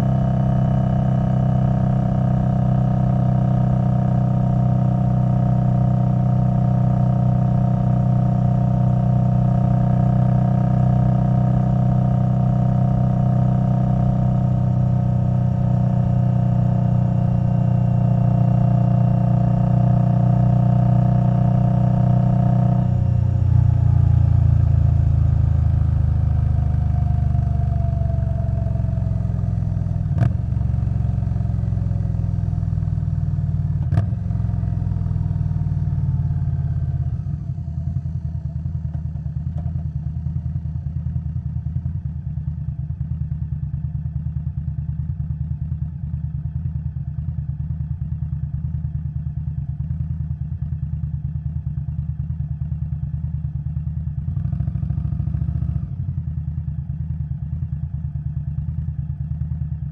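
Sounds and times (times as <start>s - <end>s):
motorcycle engine idling: 0.0s - 59.9s
motorcycle engine running: 0.0s - 59.9s.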